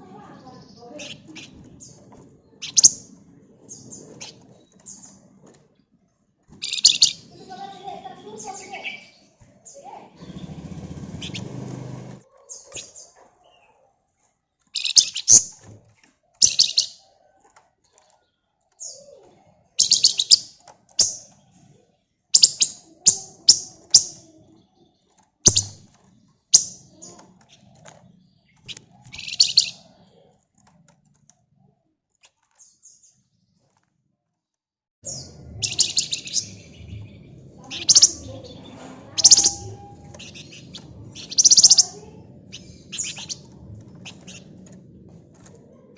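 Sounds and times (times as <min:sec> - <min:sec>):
songbird chirping and trilling: 0:00.0 - 0:33.9, 0:35.0 - 0:45.9.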